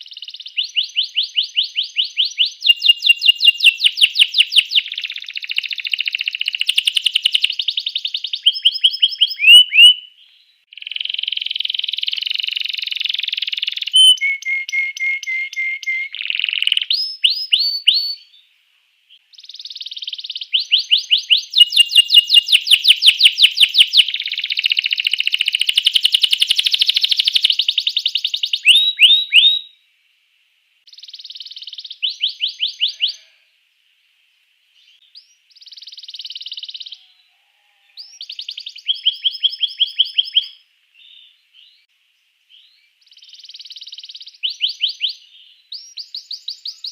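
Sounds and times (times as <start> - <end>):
canary singing: 0.0 - 18.4, 19.2 - 29.8, 30.9 - 33.4, 34.8 - 41.9.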